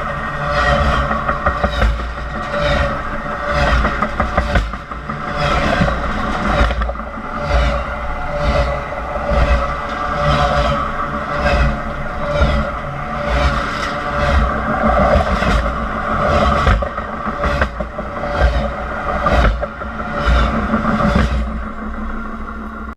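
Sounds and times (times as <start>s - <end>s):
metallic screech: 0.0s - 22.8s
train cars rumbling: 0.0s - 22.9s
train wheels clacking: 0.0s - 22.9s.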